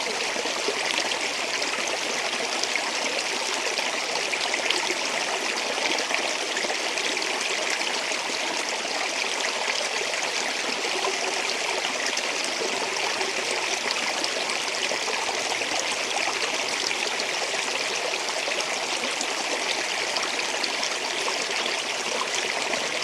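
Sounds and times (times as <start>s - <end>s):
stream water over rocks: 0.0s - 23.0s.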